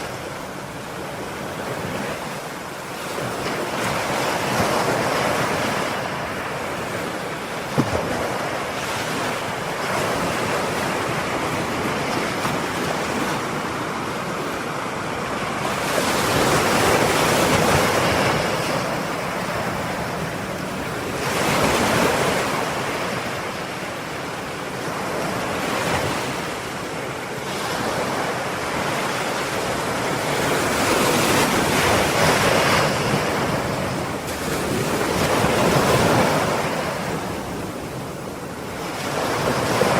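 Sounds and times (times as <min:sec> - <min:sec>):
ocean surf waves: 0:00.0 - 0:39.9.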